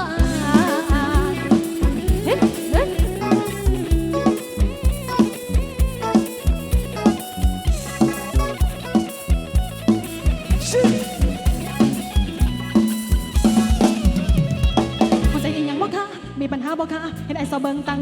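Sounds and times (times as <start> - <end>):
electric guitar or keyboard melody: 0.0 - 16.3
bass: 0.0 - 18.0.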